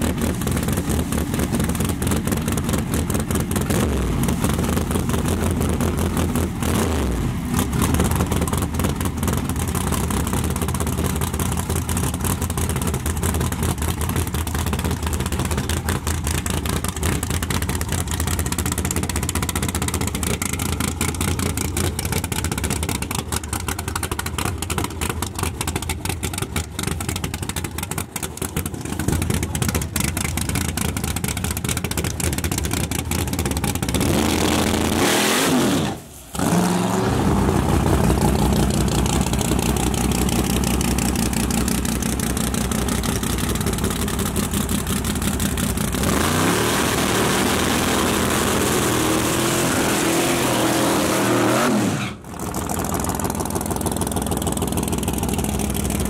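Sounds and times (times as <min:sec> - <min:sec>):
car engine idling and revving: 0:00.0 - 0:56.0
pickup truck engine: 0:00.0 - 0:56.0.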